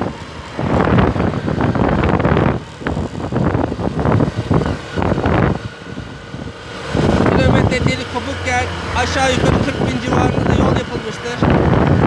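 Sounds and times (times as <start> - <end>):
motorcycle engine cruising: 0.0 - 12.0
wind buffeting microphone: 0.0 - 12.0.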